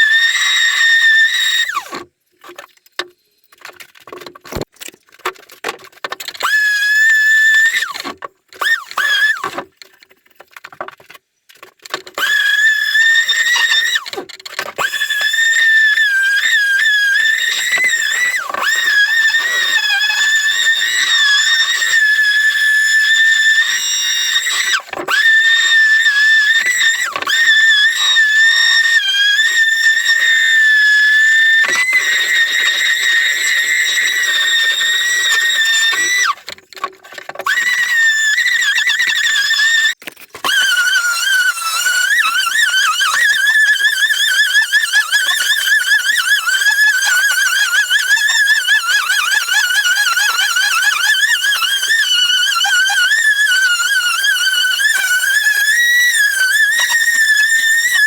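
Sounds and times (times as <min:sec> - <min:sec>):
power tool motor whining: 0:00.0 - 0:02.0, 0:06.4 - 0:09.7, 0:12.2 - 0:58.0.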